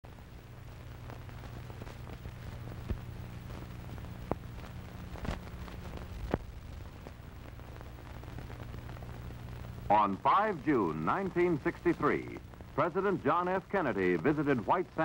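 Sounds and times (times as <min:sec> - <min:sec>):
film crackle and pops: 0:00.0 - 0:15.0
low film hum: 0:00.1 - 0:15.0.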